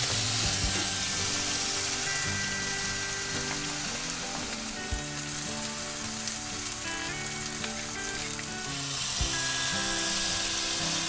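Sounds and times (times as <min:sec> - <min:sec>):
soft background music: 0:00.0 - 0:11.0
steak sizzling in frying pan: 0:00.0 - 0:11.0.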